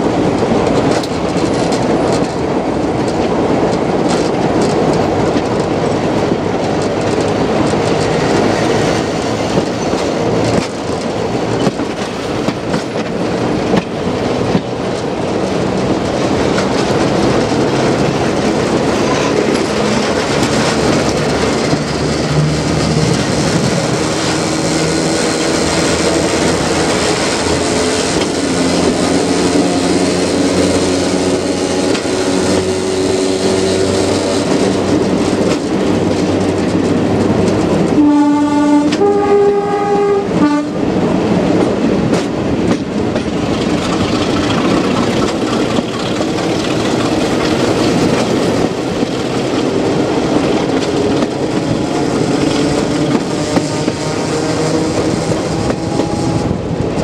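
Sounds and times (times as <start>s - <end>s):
wheels clattering over track: 0.0s - 39.4s, 40.8s - 57.0s
diesel locomotive engine under power: 0.0s - 57.0s.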